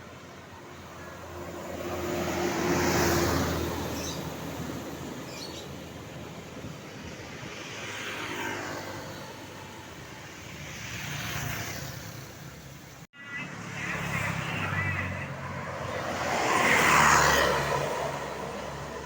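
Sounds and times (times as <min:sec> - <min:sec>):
buses driving past: 0:00.0 - 0:19.0.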